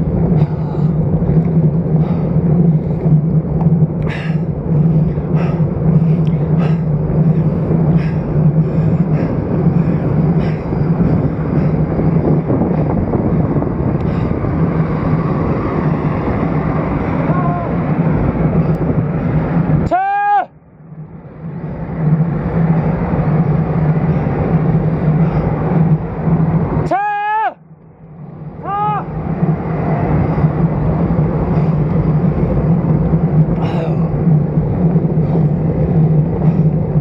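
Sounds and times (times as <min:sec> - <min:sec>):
bike clicks and ticks: 0:00.0 - 0:19.8, 0:20.9 - 0:26.9, 0:27.8 - 0:37.0
road rumble: 0:00.0 - 0:37.0
wind rush: 0:00.0 - 0:37.0.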